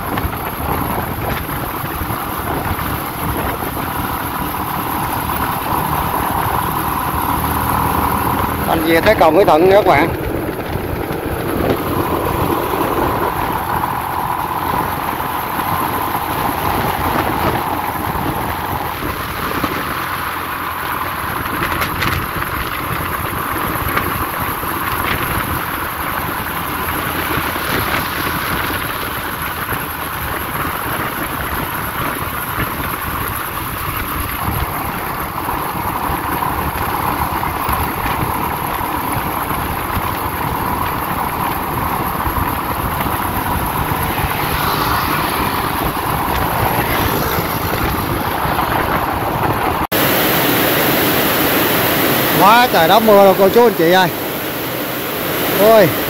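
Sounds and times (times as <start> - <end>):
motorbike engine running: 0.0 - 56.0
road noise: 0.0 - 56.0
wind noise: 0.0 - 56.0.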